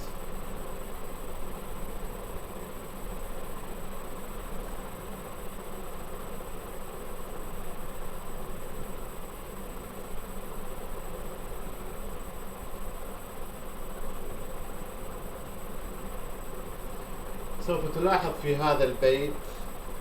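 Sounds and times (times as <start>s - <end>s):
buzzing hum with hiss: 0.0s - 20.0s.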